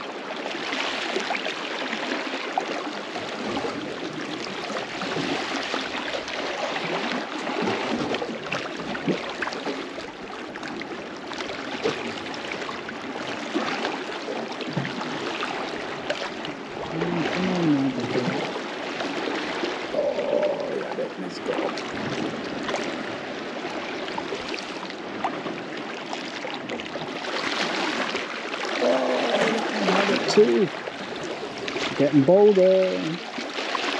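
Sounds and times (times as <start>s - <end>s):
waves lapping against rocks: 0.0s - 33.9s.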